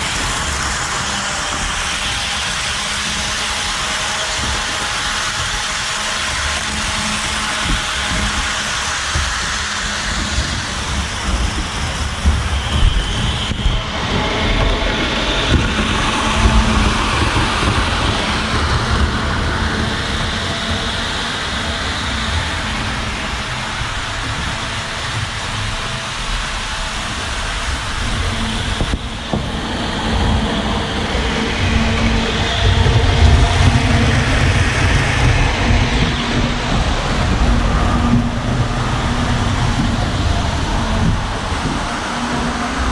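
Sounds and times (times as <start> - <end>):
model train rolling on rails: 0.0 - 42.9.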